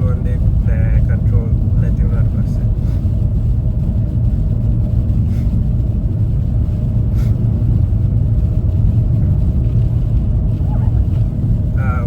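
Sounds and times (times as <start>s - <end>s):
car engine and tyre noise on snow: 0.0s - 12.0s.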